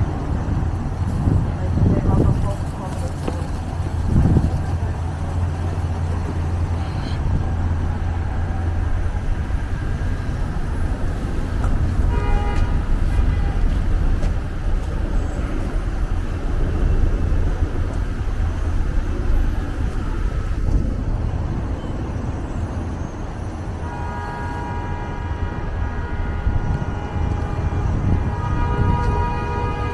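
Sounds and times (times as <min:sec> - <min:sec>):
steady low traffic rumble: 0:00.0 - 0:29.9
vehicles passing: 0:00.0 - 0:29.9.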